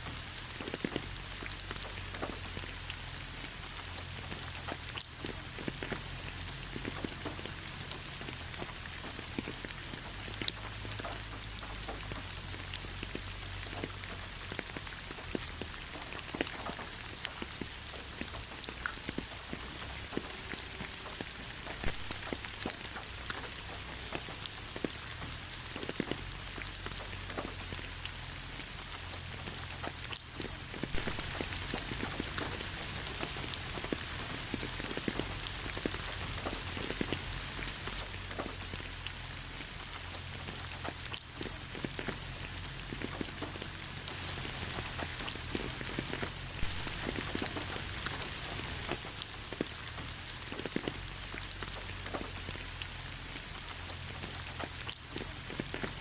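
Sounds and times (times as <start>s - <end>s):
raindrops ticking on a surface: 0.0s - 56.0s
steady rain hiss: 0.0s - 56.0s.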